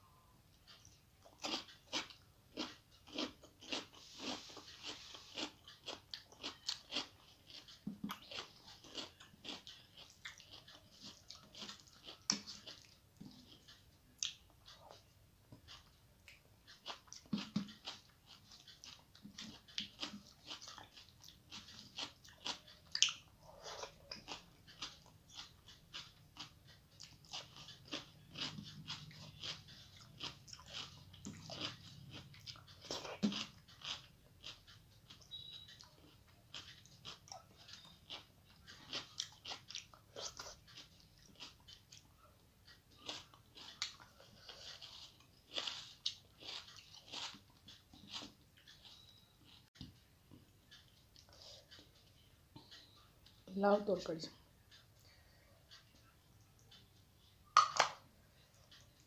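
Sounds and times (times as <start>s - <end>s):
person chewing with mouth clicks: 0.2s - 53.4s, 54.5s - 59.0s.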